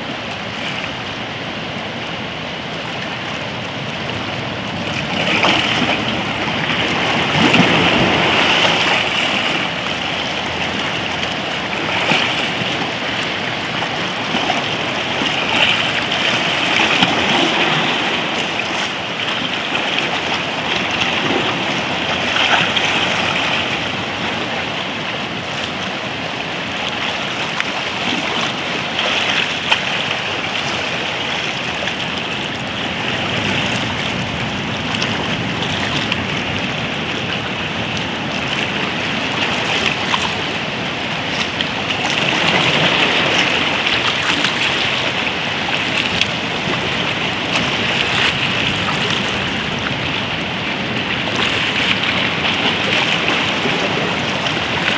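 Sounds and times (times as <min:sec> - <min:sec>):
waves washing over rocks: 0:00.0 - 0:54.9.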